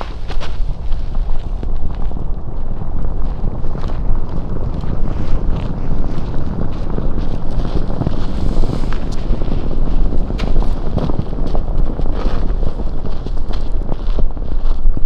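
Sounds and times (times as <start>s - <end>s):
short crackles: 0.0s - 15.0s
wind buffeting microphone: 0.0s - 15.0s.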